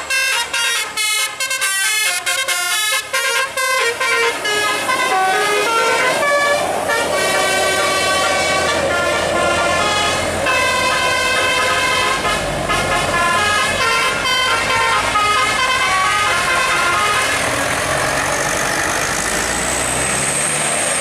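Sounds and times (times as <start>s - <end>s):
bus horn playing a melody: 0.0s - 18.2s.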